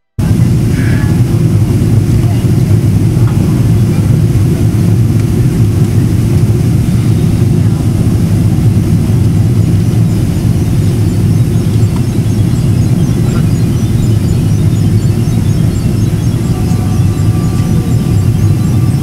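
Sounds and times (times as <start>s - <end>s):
airliner cabin engine rumble: 0.1s - 19.0s.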